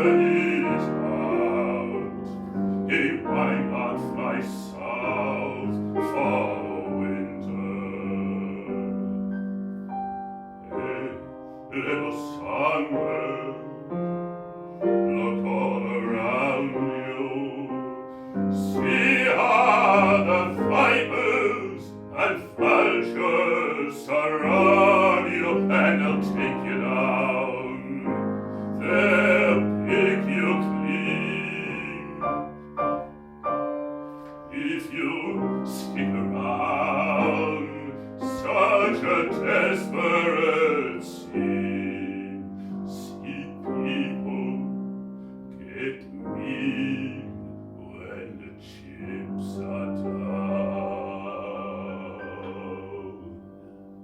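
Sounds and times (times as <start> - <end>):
man singing operatically: 0.0 - 9.0, 10.6 - 13.9, 15.1 - 32.6, 34.5 - 44.8, 45.6 - 53.8
piano accompaniment: 0.0 - 54.0.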